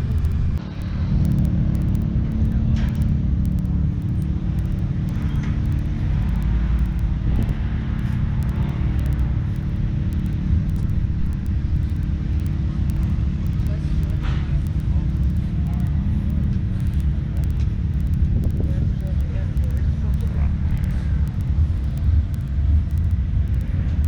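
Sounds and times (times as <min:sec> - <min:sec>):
truck engines rumbling: 0:00.0 - 0:24.0.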